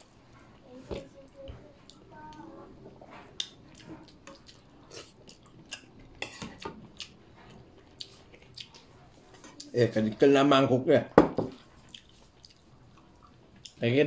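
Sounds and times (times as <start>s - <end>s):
quiet chewing: 0.0s - 9.8s, 11.6s - 13.8s.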